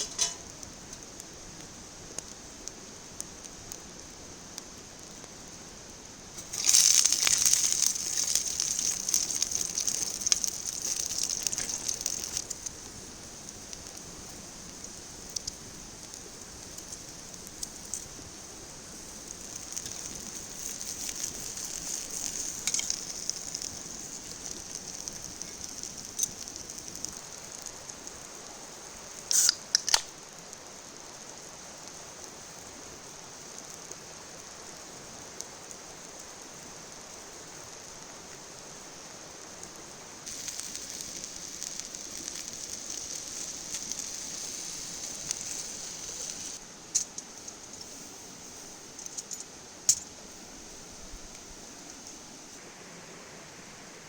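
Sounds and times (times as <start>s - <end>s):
food sizzling on a grill: 0.0s - 52.9s.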